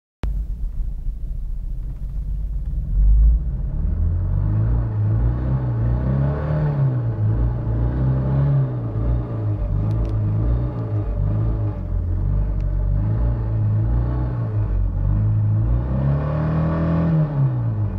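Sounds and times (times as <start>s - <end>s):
car engine revving: 0.3s - 17.9s.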